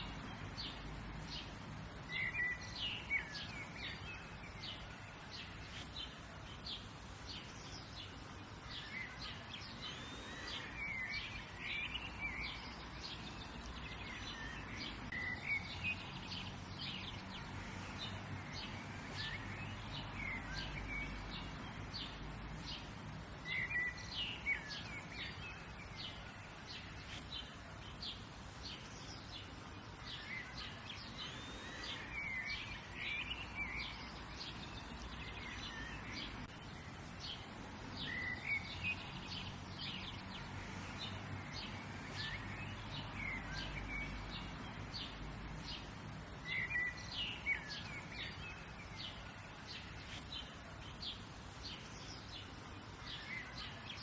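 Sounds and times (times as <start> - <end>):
birds chirping and singing: 0.0 - 54.0
low background noise: 0.0 - 54.0.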